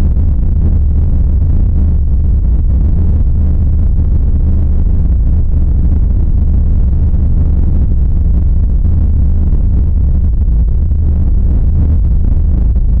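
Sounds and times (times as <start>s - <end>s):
deep rumbling drone: 0.0s - 13.0s.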